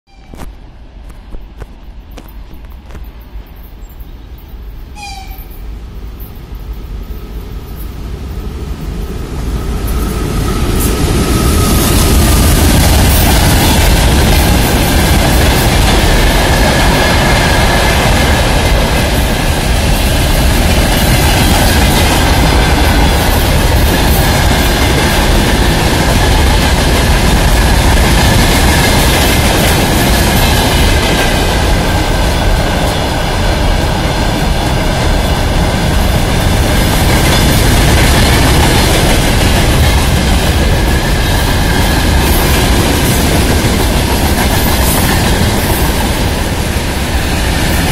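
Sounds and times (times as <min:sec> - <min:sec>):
train wheels rumbling on rails: 0:00.1 - 0:47.9.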